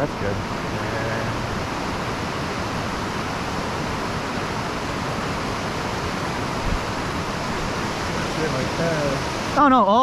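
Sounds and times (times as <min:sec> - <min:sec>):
wind on microphone: 0:01.3 - 0:09.6.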